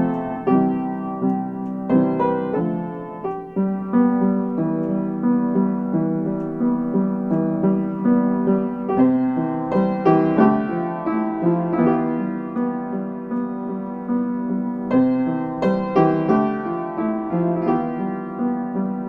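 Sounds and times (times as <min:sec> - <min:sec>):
calm piano melody: 0:00.0 - 0:19.0.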